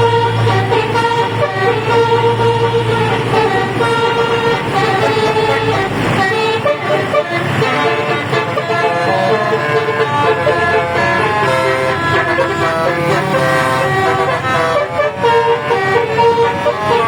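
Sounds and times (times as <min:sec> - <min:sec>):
musical air horn playing a tune: 0:00.0 - 0:17.0.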